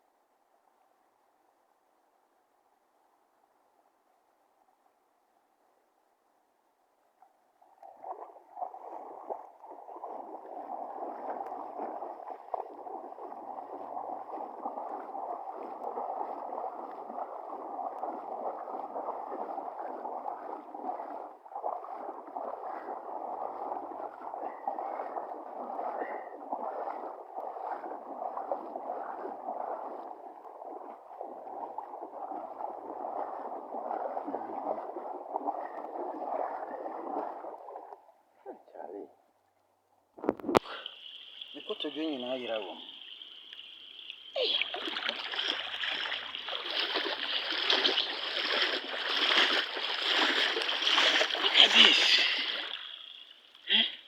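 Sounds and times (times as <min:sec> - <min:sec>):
floodwater rushing: 0:07.9 - 0:38.0, 0:40.6 - 0:54.0.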